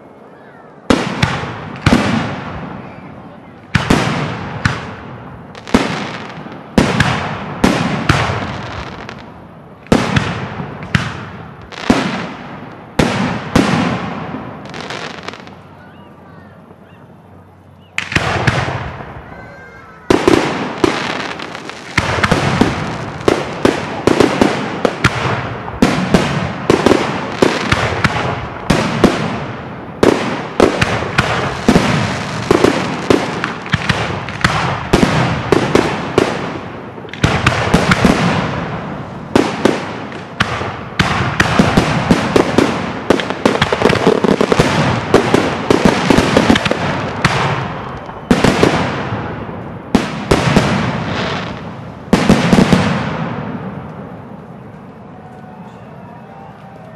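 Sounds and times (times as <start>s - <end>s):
firework bangs and crackles: 0.0s - 15.8s, 18.0s - 55.5s.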